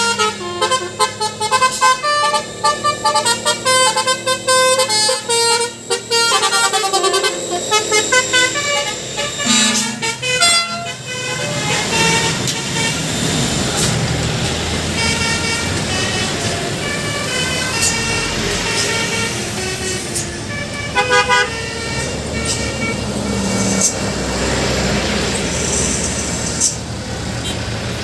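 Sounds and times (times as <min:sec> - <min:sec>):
multi-tone horn melody: 0:00.0 - 0:13.9, 0:14.5 - 0:24.0
truck engine running: 0:00.0 - 0:28.0.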